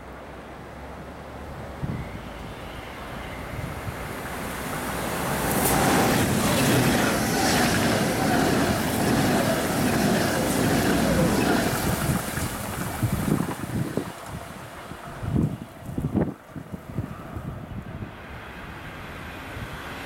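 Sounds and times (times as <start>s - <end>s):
high-speed train passing: 0.0s - 20.0s.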